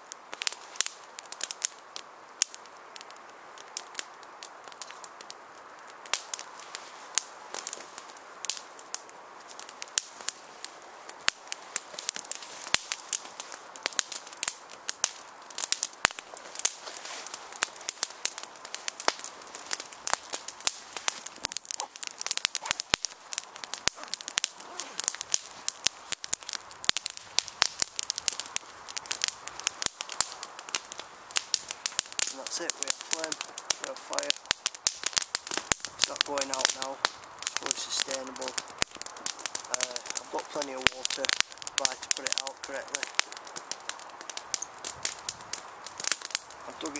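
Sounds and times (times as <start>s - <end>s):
faint fire hiss: 0.0s - 46.9s
wood fire crackling and popping: 0.0s - 46.9s.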